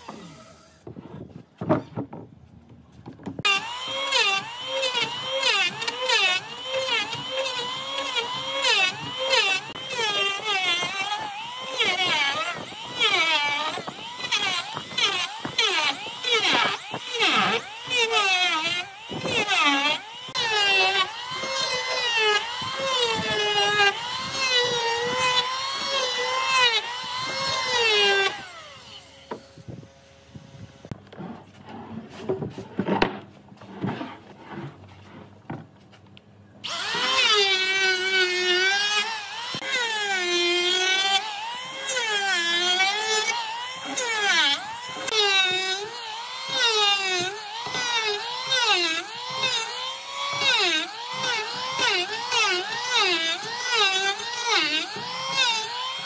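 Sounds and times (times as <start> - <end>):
power tool whining on wood: 0.0 - 0.9, 3.4 - 31.3, 36.6 - 56.0.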